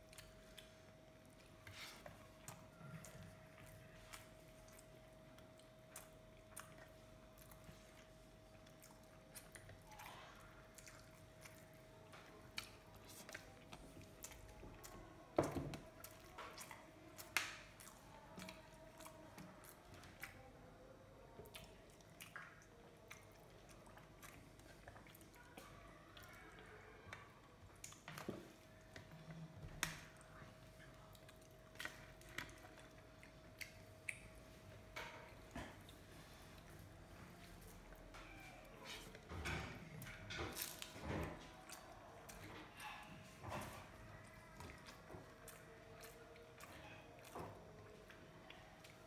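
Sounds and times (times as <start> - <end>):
mouth chewing: 0.0 - 39.4, 40.0 - 49.0.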